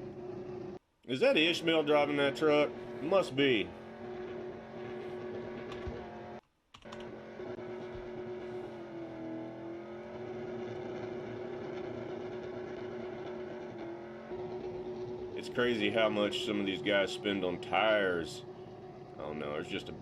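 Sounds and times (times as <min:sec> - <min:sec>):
truck engine revving high: 0:01.3 - 0:20.0.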